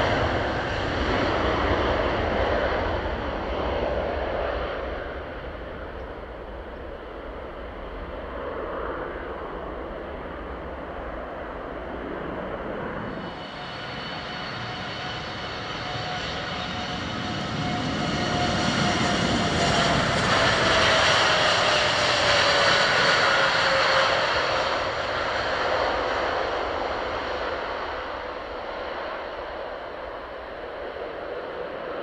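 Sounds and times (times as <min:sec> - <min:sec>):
jet engine roar with whine: 0:00.0 - 0:32.0.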